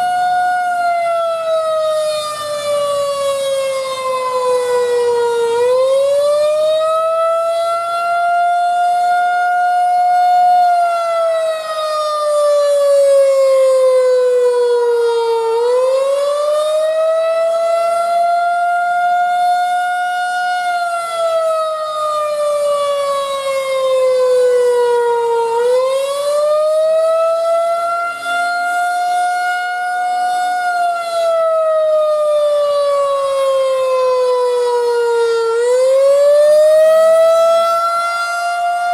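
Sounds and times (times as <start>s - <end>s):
outdoor warning siren wailing: 0.0s - 38.9s.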